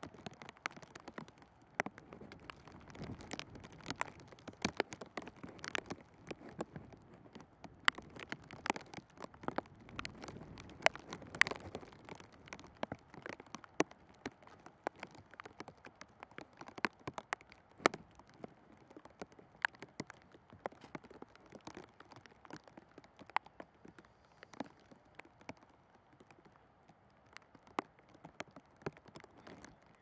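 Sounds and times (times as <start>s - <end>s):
faint steady hiss: 0.0s - 30.0s
sharp taps and clicks: 0.0s - 30.0s.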